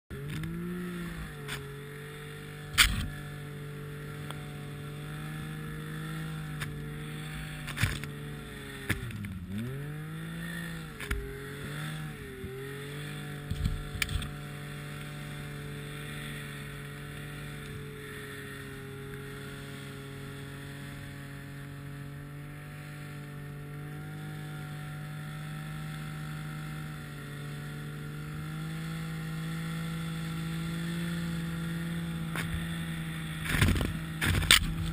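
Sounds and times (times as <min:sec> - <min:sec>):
snowmobile engine running: 0:00.1 - 0:34.9.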